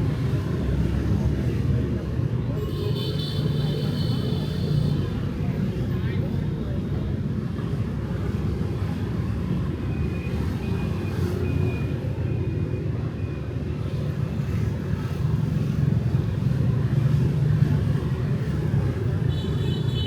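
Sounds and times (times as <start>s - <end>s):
street traffic engine rumble: 0.0s - 20.0s.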